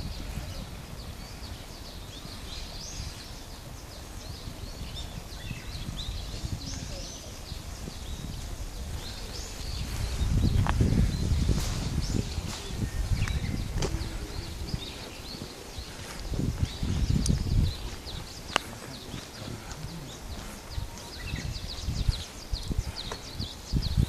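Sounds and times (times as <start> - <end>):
small birds chirping: 0.0 - 24.0
wind rumble: 0.0 - 24.0
microphone handling: 4.4 - 24.0.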